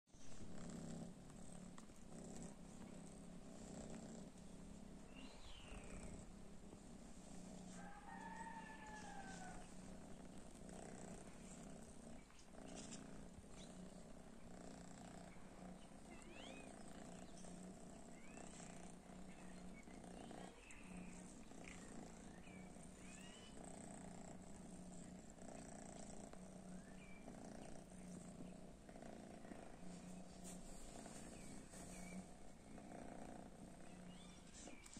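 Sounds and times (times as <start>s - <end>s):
cat purring: 0.1s - 34.9s.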